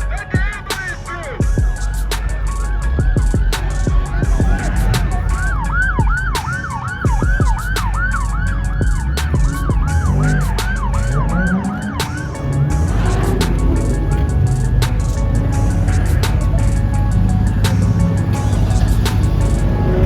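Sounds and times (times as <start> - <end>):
hip-hop music with heavy bass: 0.0 - 20.0
yelp siren: 0.0 - 20.0.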